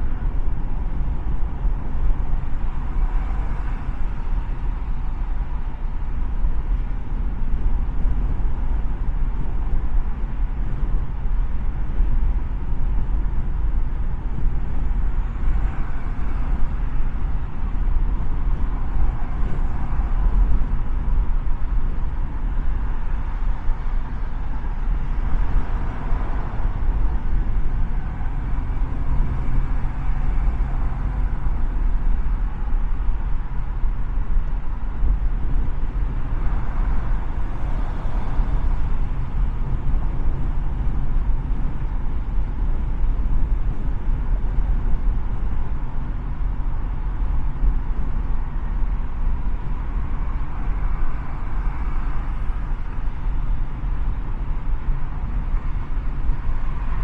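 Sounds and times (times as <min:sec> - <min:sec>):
low engine hum: 0:00.0 - 0:57.0
road and tyre noise: 0:00.0 - 0:57.0.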